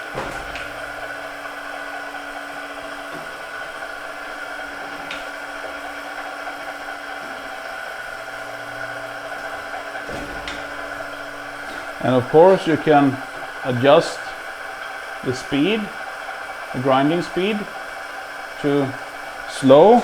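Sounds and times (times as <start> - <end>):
grinder machine hum: 0.0 - 20.0.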